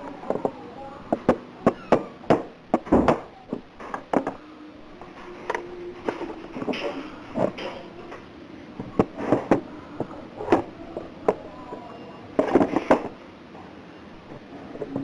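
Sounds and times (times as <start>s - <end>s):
small hard parts clicking: 0.0s - 13.2s.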